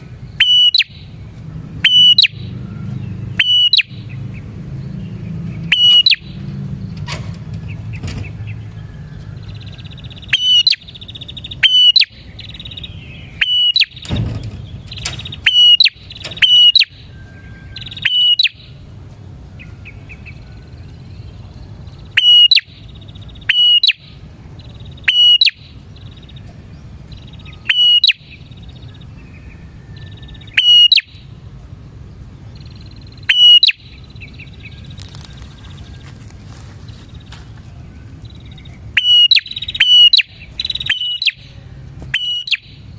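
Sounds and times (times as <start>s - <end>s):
buzzy bird trills: 0.0s - 6.8s, 7.6s - 42.9s
bird song with downward notes: 0.0s - 42.9s.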